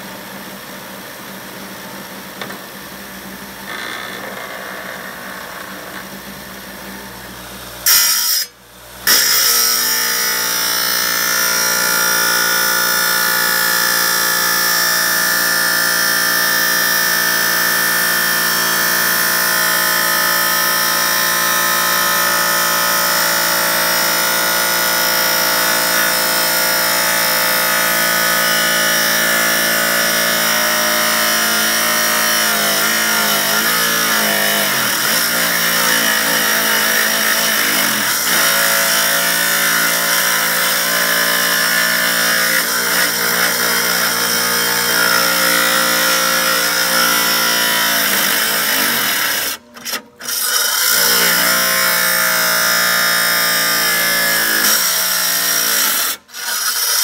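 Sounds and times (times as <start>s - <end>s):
wet tile saw whining: 9.1s - 57.0s.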